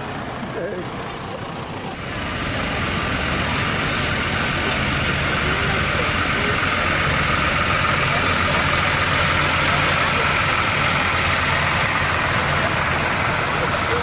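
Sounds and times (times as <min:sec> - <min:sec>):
tractor engine at low revs: 0:00.0 - 0:14.0.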